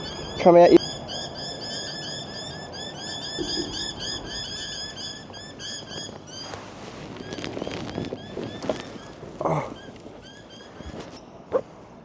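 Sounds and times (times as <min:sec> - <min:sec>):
animal chirping rapidly: 0:00.0 - 0:11.7.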